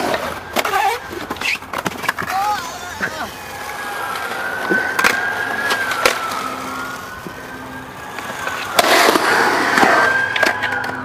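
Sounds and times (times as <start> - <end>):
skateboard clacks: 0.0 - 7.4, 8.0 - 11.0
siren wailing: 0.0 - 11.0
skateboard wheels rolling on concrete: 0.0 - 11.0.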